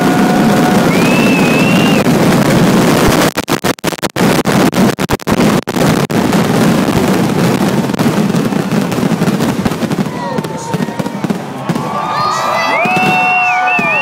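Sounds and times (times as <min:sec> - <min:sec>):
fireworks barrage: 0:00.0 - 0:14.0.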